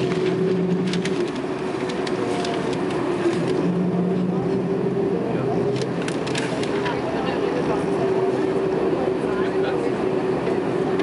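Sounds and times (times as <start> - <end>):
jet engines idling: 0.0 - 11.0.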